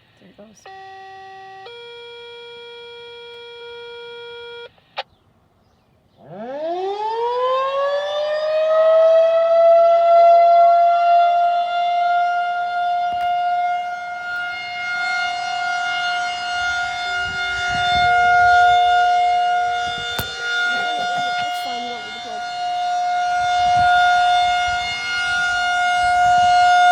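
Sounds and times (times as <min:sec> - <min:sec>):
warning siren winding up: 0:00.6 - 0:05.0, 0:06.2 - 0:26.9.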